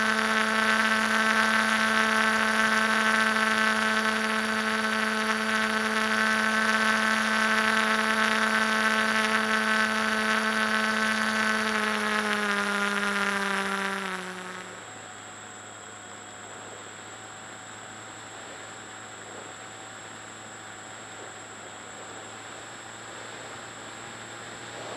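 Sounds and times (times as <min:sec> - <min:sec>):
model airplane motor whine: 0:00.0 - 0:24.9.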